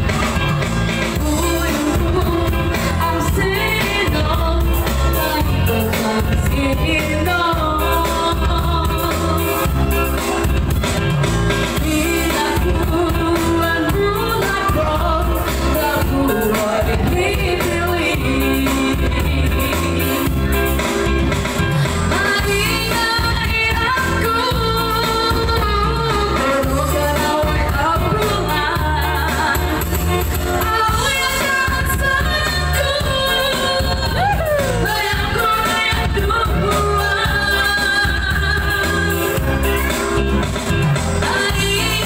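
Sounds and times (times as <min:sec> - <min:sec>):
electronic keyboard with bass beat: 0:00.0 - 0:42.0
woman singing into a microphone: 0:00.0 - 0:42.0.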